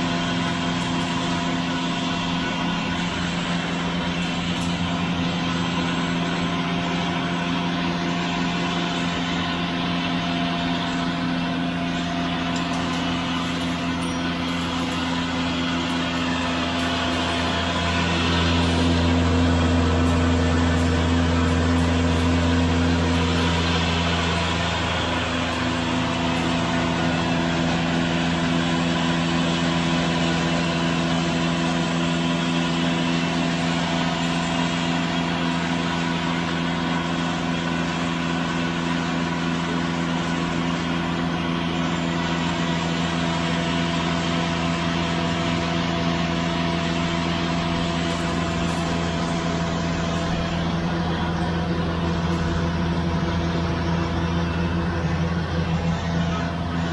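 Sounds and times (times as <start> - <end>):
flour mill grinding wheat: 0.0 - 56.9.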